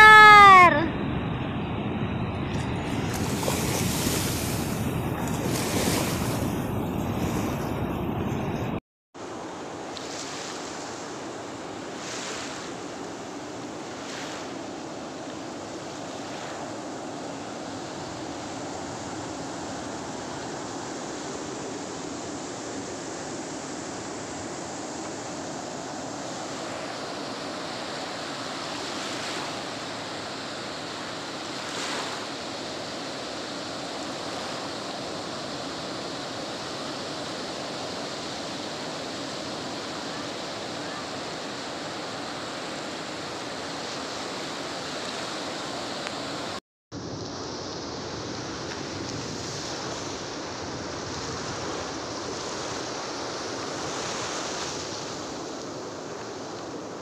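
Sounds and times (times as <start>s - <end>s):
ocean waves breaking: 1.5s - 57.0s.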